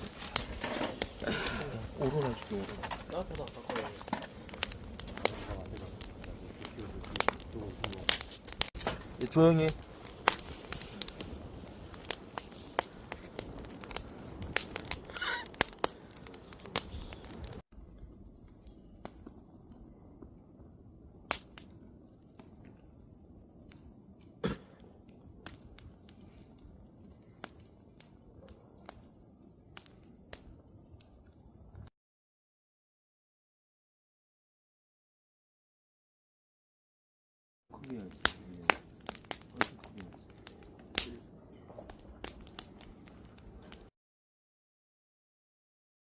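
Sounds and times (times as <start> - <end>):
campfire crackling and popping: 0.0 - 31.9, 37.7 - 43.9.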